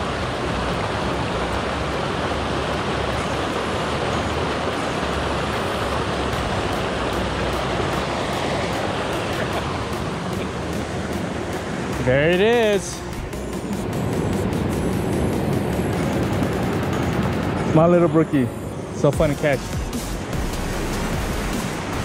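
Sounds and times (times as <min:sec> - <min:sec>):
mountain stream rushing: 0:00.0 - 0:22.0.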